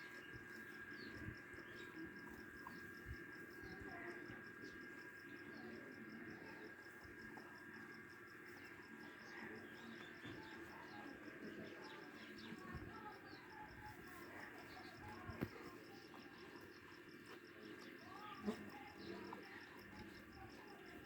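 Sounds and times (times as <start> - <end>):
pulsing insect chirp: 0.0 - 21.0.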